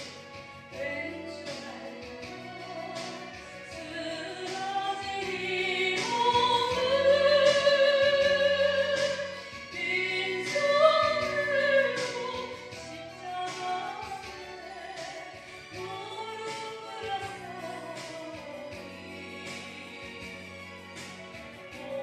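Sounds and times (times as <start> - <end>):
instrumental backing music: 0.0 - 22.0
woman singing into microphone: 0.7 - 20.4.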